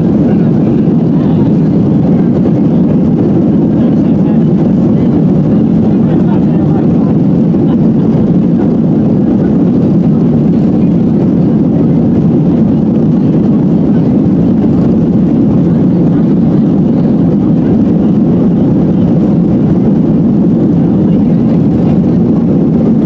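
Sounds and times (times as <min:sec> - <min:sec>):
jet cabin roar: 0:00.0 - 0:23.0.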